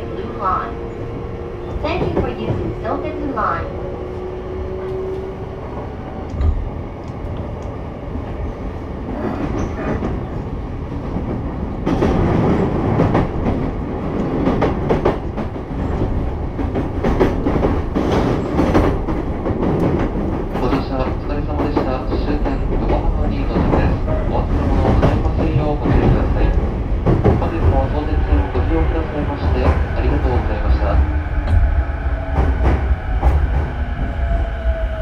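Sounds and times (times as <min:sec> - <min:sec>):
train running rumble: 0:00.0 - 0:35.0.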